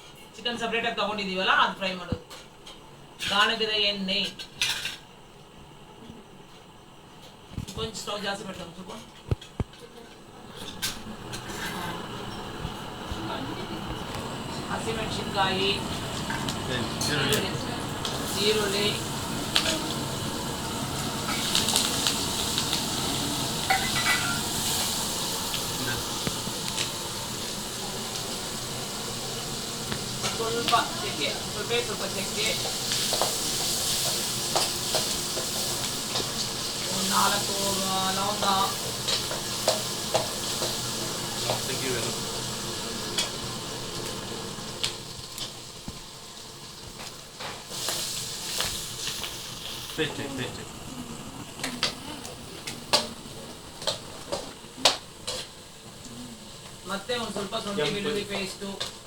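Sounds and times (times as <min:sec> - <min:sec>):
onions sizzling in hot oil: 0:10.5 - 0:59.0.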